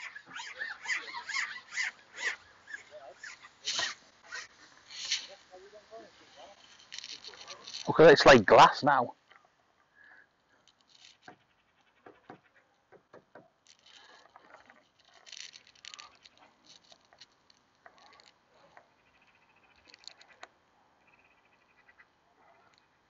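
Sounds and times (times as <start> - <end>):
faint small ticks and rustles: 0.0 - 23.0.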